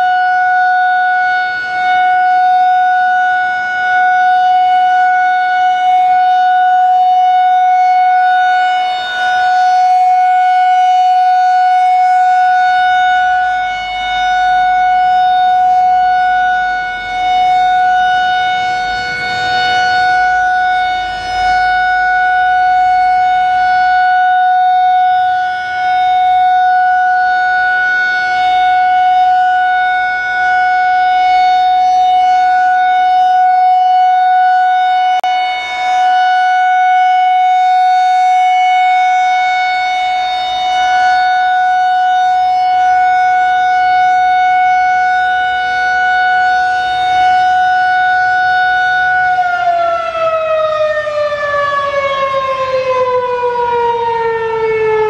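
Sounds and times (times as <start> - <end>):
electromechanical siren alert tone: 0.0 - 55.0.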